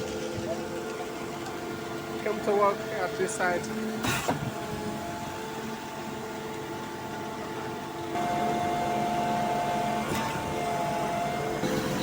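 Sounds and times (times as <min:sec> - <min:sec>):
concrete pump and truck engines: 0:00.0 - 0:12.0.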